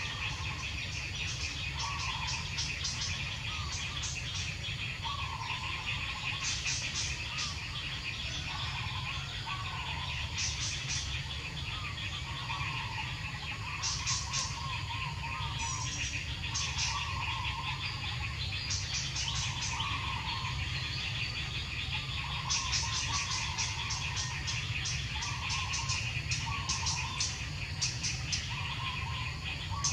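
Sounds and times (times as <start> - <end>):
warbling bird calls: 0.0 - 29.9.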